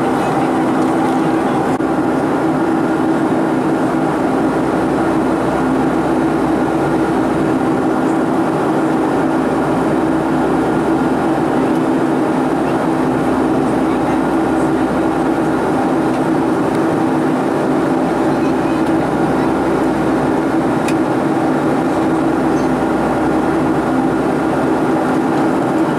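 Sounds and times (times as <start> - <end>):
airplane cabin air rush: 0.0 - 25.9
jet engines droning: 0.0 - 25.9
steady low hums: 0.0 - 25.9.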